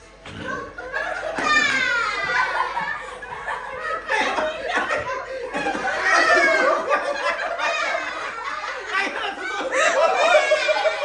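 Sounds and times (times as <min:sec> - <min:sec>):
group of people laughing: 0:00.3 - 0:11.0.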